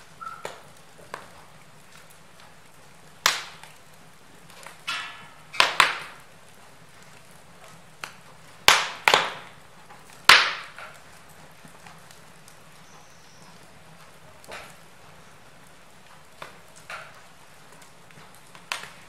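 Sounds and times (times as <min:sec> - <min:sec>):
faint hiss of flames: 0:00.0 - 0:19.0
sharp pops from burning logs: 0:00.0 - 0:19.0
wood fire crackling: 0:00.0 - 0:19.0.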